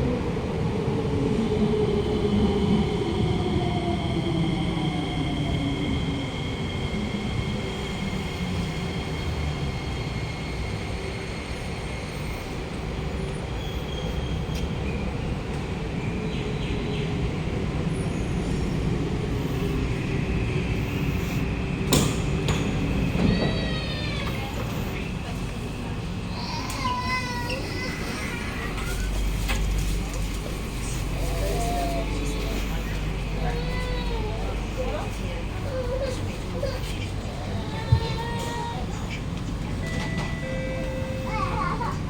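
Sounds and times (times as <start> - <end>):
train wheels rumbling: 0.0 - 42.0.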